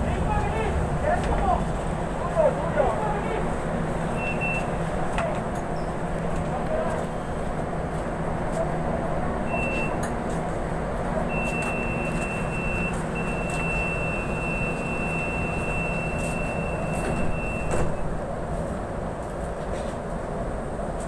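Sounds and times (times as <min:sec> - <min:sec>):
train interior low rumble: 0:00.0 - 0:21.0.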